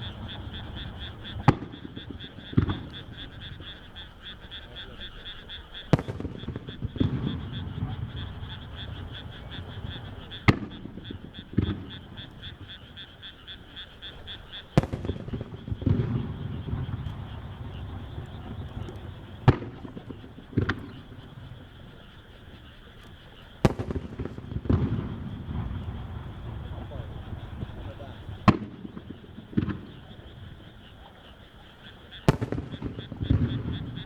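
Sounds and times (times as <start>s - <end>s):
firework bangs: 0.0s - 31.3s, 31.9s - 34.0s
frogs croaking: 0.0s - 34.0s.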